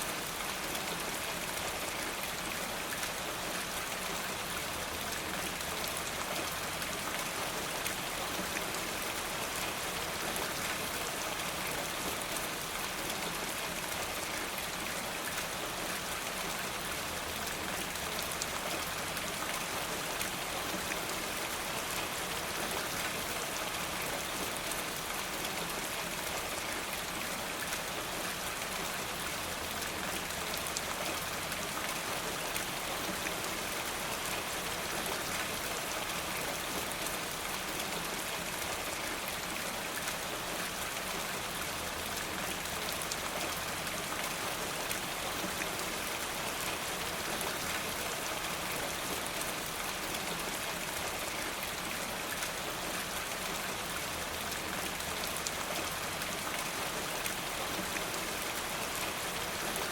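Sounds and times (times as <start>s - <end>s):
steady rain with drop ticks: 0.0s - 59.9s.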